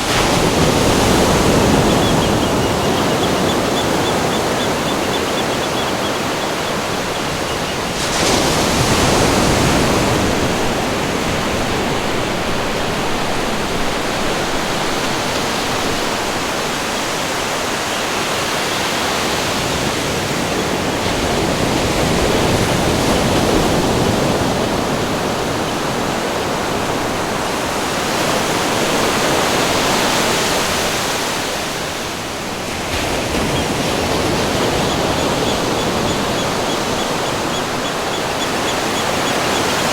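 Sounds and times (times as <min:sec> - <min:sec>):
ocean surf breaking waves: 0:00.0 - 0:39.9.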